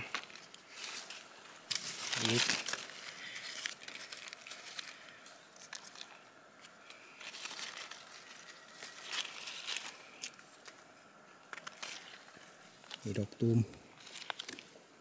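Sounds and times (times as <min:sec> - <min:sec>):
dry leaves rustling: 0:00.0 - 0:10.8, 0:11.5 - 0:14.8.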